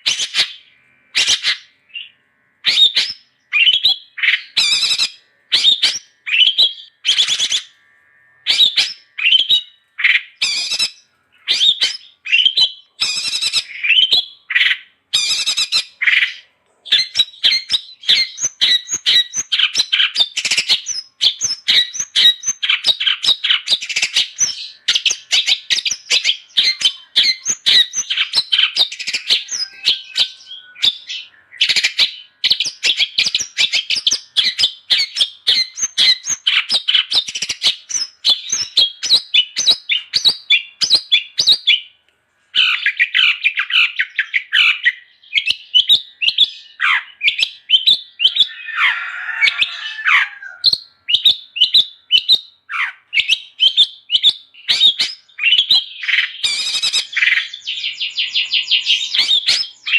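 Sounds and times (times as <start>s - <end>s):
bird singing and chattering: 0.0s - 7.7s, 8.4s - 41.9s, 42.6s - 48.9s, 50.6s - 59.9s.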